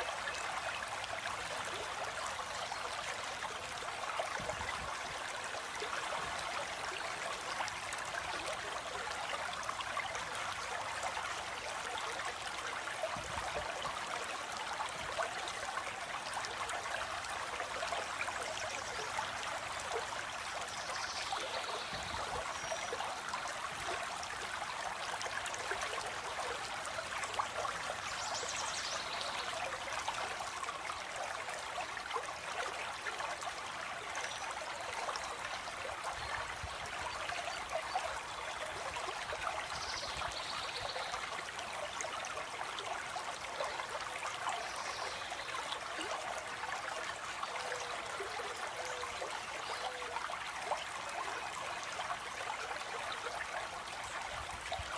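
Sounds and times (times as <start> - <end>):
stream of water flowing: 0.0 - 54.9.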